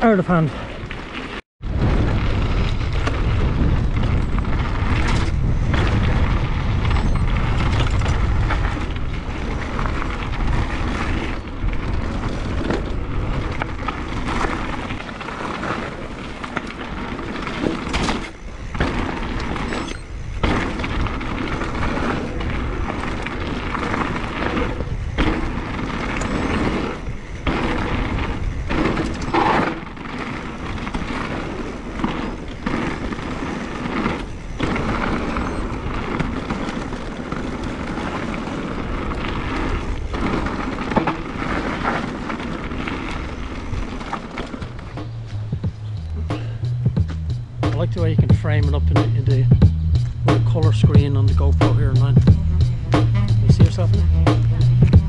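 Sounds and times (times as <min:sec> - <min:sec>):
bike tyres on gravel and mud: 0:00.0 - 0:55.0
wind rumbling on microphone: 0:00.0 - 0:55.0
bike knocks and rattles: 0:00.9 - 0:55.0.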